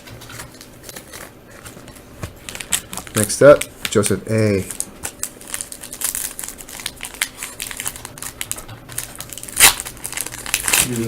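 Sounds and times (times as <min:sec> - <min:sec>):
card pack wrapper crinkling: 0:00.0 - 0:11.0.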